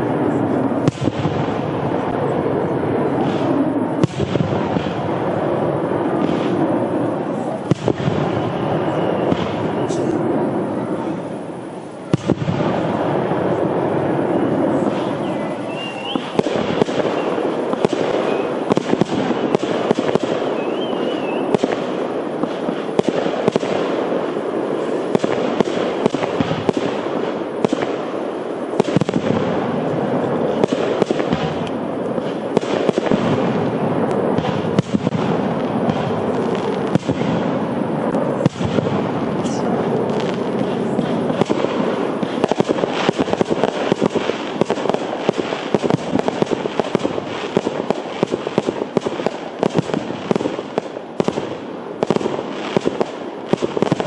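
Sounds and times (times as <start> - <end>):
firework shells bursting and crackling: 0.0 - 54.0
sharp firework bangs: 0.0 - 54.0.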